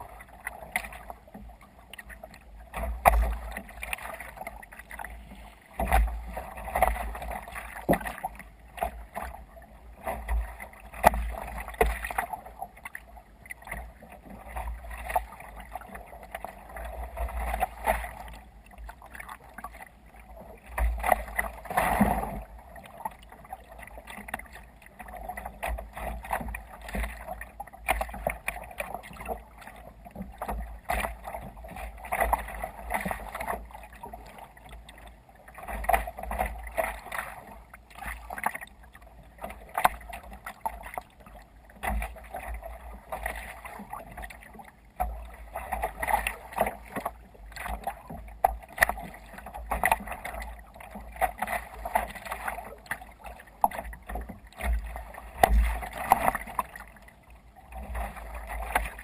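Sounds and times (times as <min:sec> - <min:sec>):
water splashing against kayak hull: 0:00.0 - 0:59.0.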